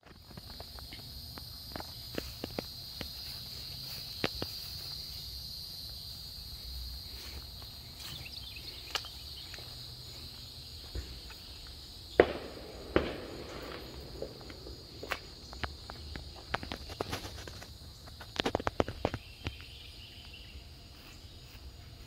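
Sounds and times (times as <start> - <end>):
footsteps on grass: 0.0 - 22.0
insects chirring: 0.0 - 22.0.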